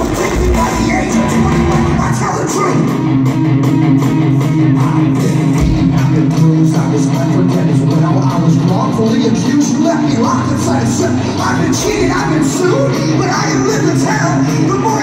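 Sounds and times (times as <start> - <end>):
bass guitar: 0.0 - 15.0
electric guitar: 0.0 - 15.0
steady drum beat: 0.0 - 15.0.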